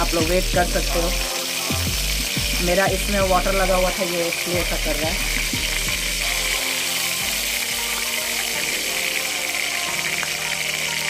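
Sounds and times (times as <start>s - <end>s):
hot oil crackling and spattering: 0.0s - 11.0s.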